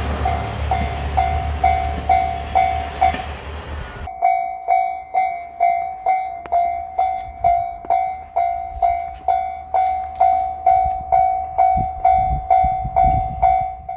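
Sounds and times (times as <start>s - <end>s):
level crossing bell ringing: 0.1s - 3.2s, 4.0s - 13.9s.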